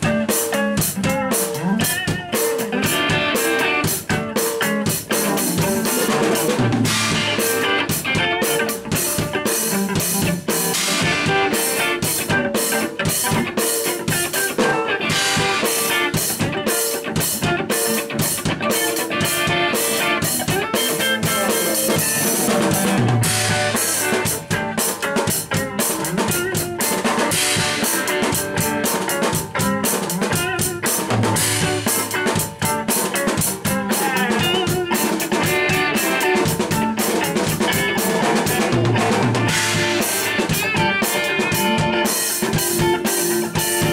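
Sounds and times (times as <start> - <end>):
drum kit beat with rimshots: 0.0 - 43.9
guitar: 0.0 - 43.9.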